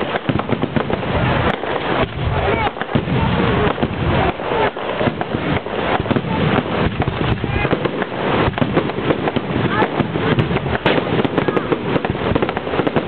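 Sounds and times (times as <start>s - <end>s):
crowd voices: 0.0s - 13.0s
fireworks cracks and bangs: 0.0s - 13.0s.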